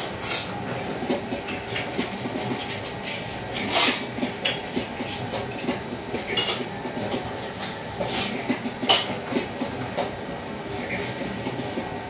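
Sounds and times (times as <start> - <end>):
rattly background rumble: 0.0 - 12.0.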